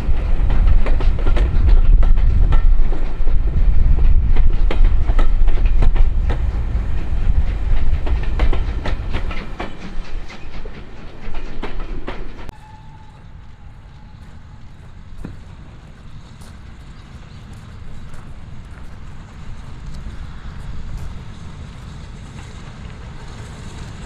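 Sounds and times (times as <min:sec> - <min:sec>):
train passing on jointed track: 0:00.0 - 0:24.0
wheels clicking over rail joints: 0:00.0 - 0:24.0.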